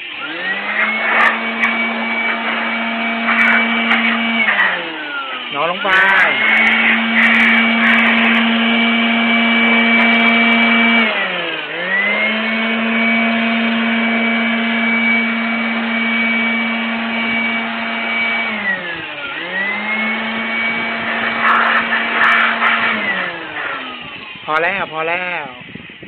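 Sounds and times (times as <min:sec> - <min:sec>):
blower motor whining: 0:00.0 - 0:26.0.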